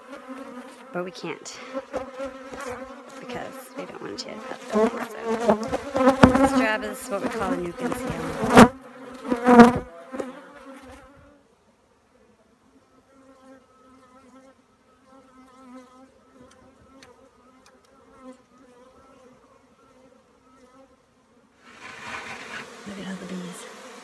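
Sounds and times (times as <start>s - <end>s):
honey bees buzzing: 0.0s - 11.2s, 13.1s - 24.0s.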